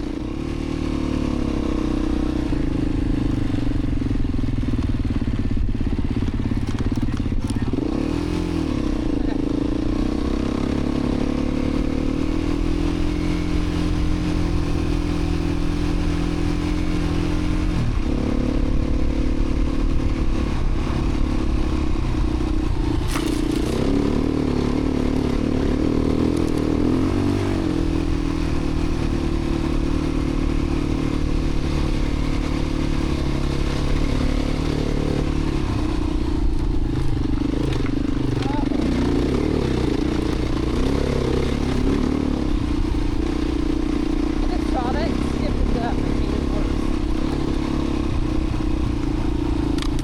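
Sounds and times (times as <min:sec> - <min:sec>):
dirt bike engine running: 0:00.0 - 0:50.0.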